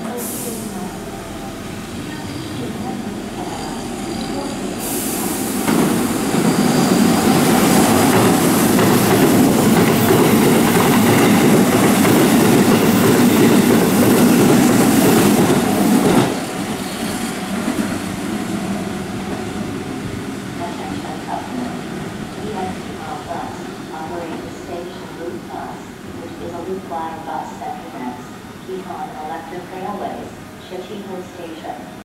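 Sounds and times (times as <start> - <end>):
train wheels rumbling on rails: 0.0 - 28.2.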